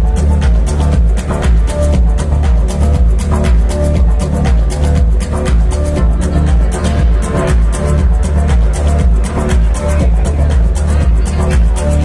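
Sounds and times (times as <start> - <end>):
loud electronic dance music: 0.0 - 12.0
steady kick drum: 0.0 - 12.0.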